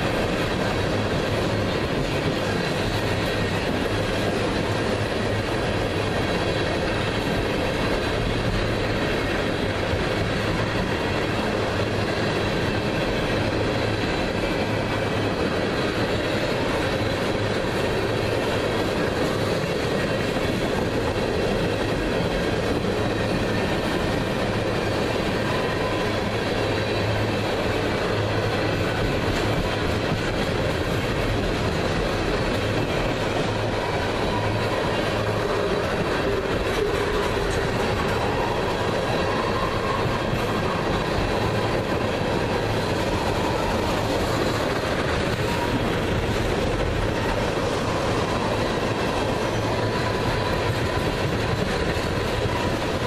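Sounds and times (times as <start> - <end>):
steel train wheels on rail: 0.0 - 53.0.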